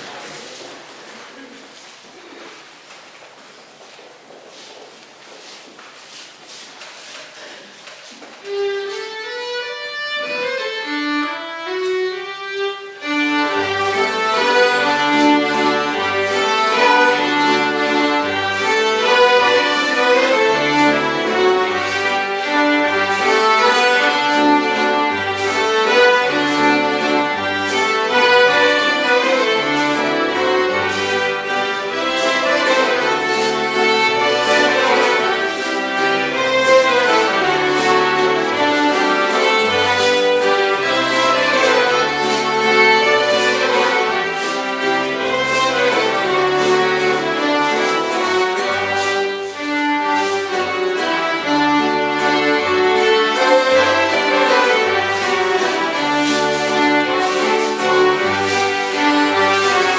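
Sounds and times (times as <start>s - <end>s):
folk dance band playing: 0.0s - 59.9s.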